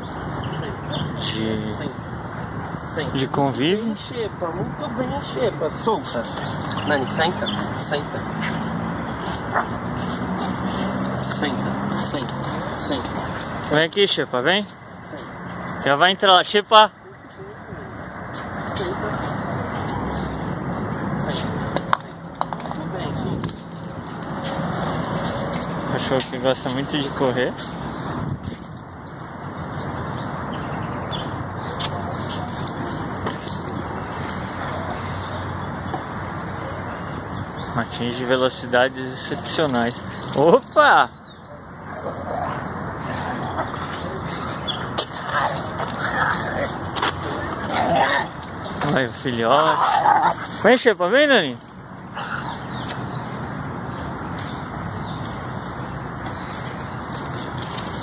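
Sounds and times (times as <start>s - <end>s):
distant road traffic hum: 0.0s - 58.0s.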